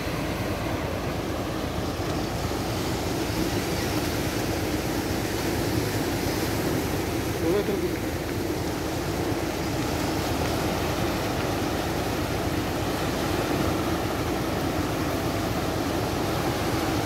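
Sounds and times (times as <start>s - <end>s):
waves breaking and churning: 0.0s - 17.0s.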